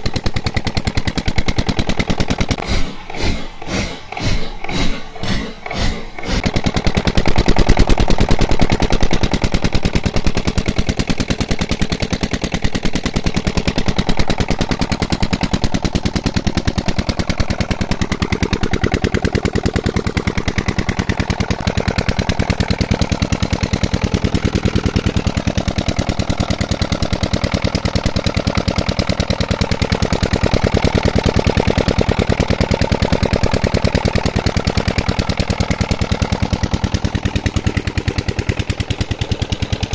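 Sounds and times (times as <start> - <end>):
diesel water pump engine running: 0.0 - 39.9.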